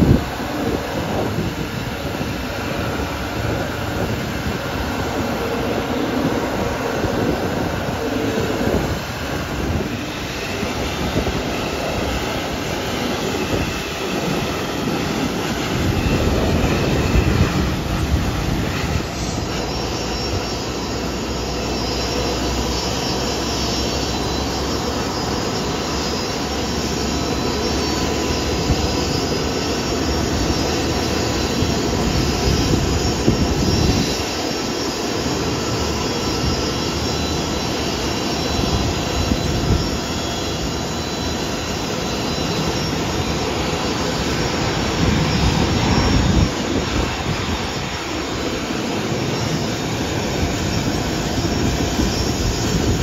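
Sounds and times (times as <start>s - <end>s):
high whine of steady tones: 0.0s - 53.0s
jet engines rushing: 0.0s - 53.0s.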